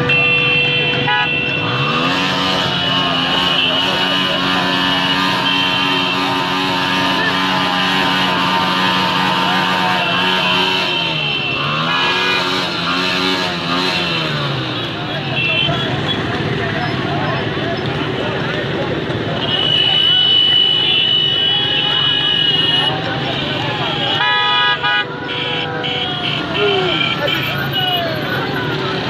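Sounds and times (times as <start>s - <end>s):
motorcycle engines accelerating: 0.0s - 29.0s.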